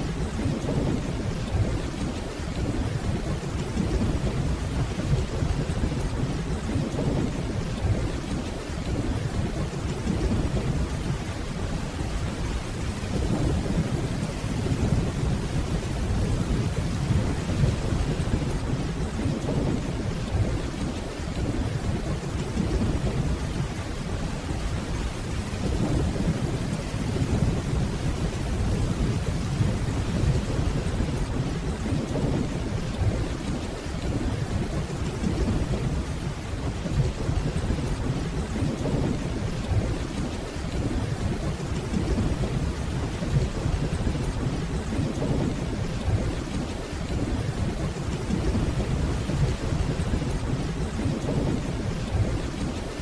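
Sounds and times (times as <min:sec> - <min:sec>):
distant rolling thunder: 0:00.0 - 0:53.0
steady rainfall: 0:00.0 - 0:53.0.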